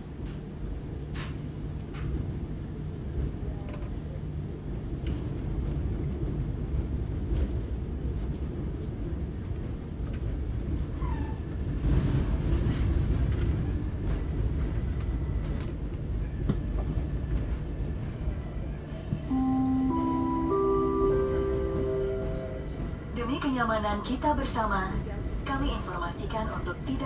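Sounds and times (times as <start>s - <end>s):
train running gear rumble: 0.0s - 27.0s.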